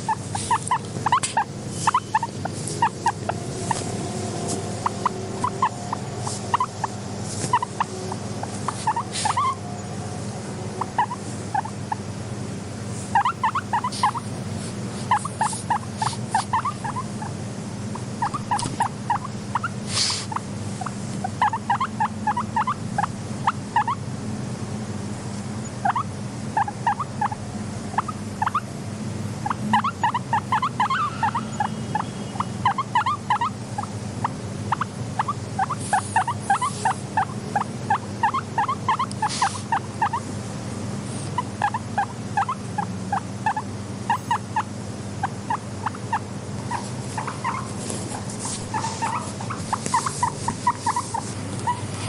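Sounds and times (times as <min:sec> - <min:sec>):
guinea pigs squeaking: 0:00.0 - 0:09.8, 0:10.8 - 0:12.1, 0:13.0 - 0:24.0, 0:25.6 - 0:28.7, 0:29.4 - 0:40.3, 0:41.1 - 0:52.0
steady low hum: 0:00.0 - 0:52.0.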